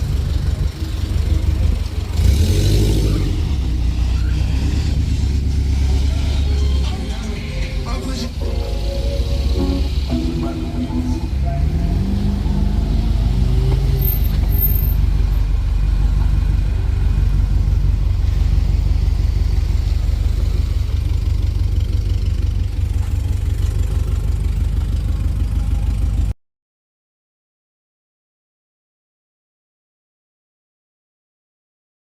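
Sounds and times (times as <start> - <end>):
car engine rumbling and revving: 0.0 - 26.4.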